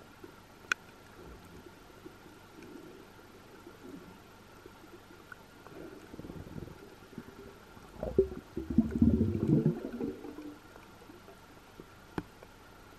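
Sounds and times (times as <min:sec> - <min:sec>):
faint steady whine: 0:00.0 - 0:12.9
underwater bubbling gurgle: 0:01.1 - 0:12.0.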